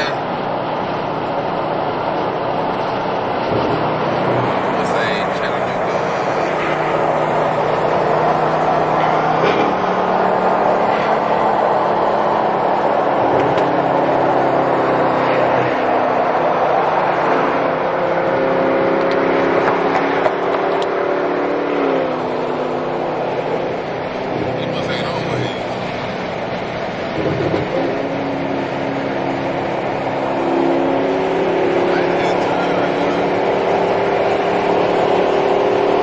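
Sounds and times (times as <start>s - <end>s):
car engine running: 0.0s - 36.0s
road traffic noise: 0.0s - 36.0s.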